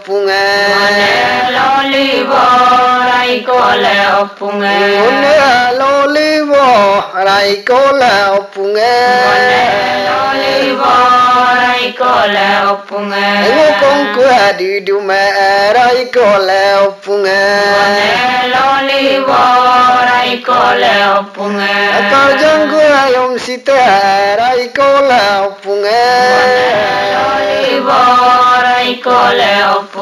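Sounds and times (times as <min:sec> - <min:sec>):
person chanting melodically: 0:00.0 - 0:30.0.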